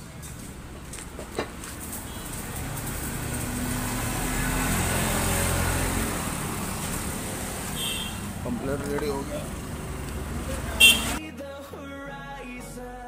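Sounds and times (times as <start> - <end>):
vehicle passing on road: 0.0 - 11.2.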